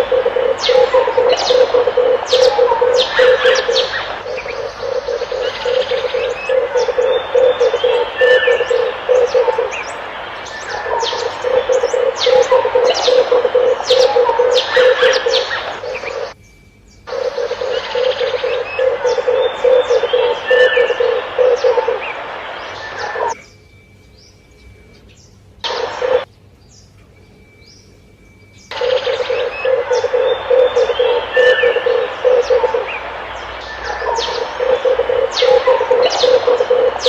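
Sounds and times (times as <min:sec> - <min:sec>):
dove cooing: 0:00.0 - 0:16.4, 0:17.1 - 0:23.4, 0:25.7 - 0:26.3, 0:28.7 - 0:37.0
background hiss: 0:00.0 - 0:37.0
small birds chirping faintly: 0:00.0 - 0:37.0.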